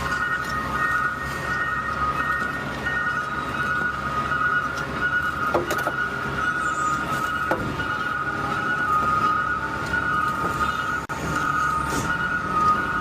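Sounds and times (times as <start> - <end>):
high-pitched whine: 0.0 - 13.0
low engine rumble: 0.0 - 13.0.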